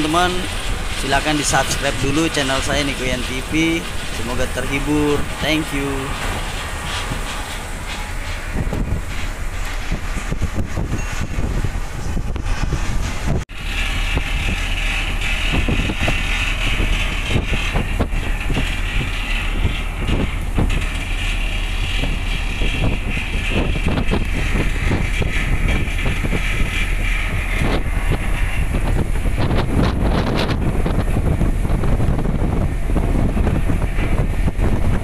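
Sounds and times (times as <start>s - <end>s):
ship machinery rumble: 0.0s - 35.0s
wind buffeting microphone: 0.0s - 35.0s.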